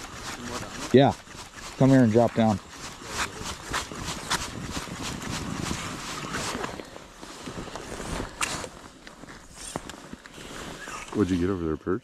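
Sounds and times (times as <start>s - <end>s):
jacket fabric rustling: 0.0s - 11.4s
snow crunching: 0.0s - 12.0s.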